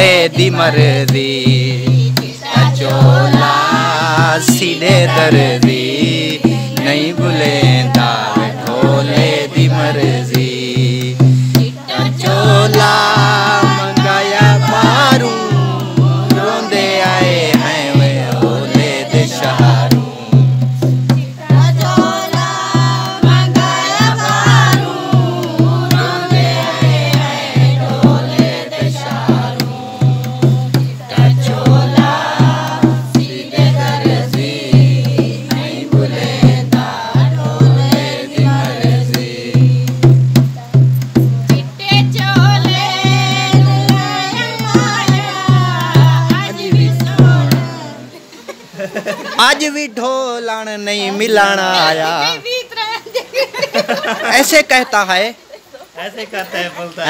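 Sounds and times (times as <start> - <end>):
women singing: 0.0 - 49.4
hand drum rhythm: 0.0 - 49.7.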